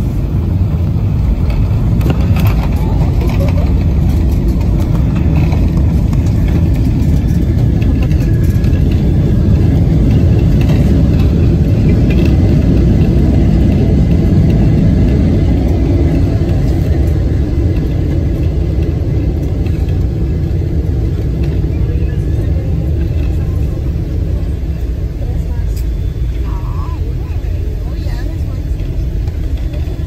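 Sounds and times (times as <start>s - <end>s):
jet engines and wheels rumbling: 0.0s - 30.0s.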